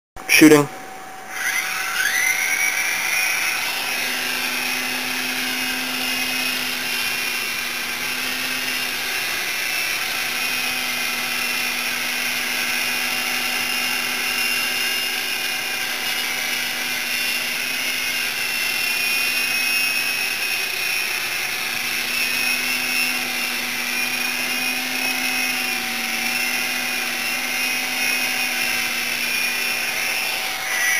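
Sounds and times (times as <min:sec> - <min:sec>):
toy helicopter rotors whining: 0:00.3 - 0:30.9.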